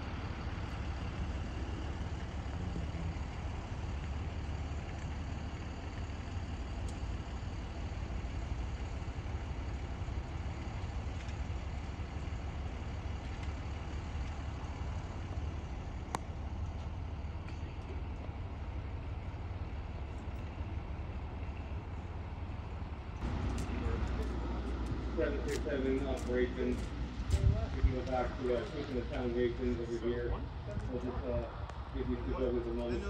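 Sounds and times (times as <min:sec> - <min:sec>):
fire truck engines idling: 0:00.0 - 0:33.0.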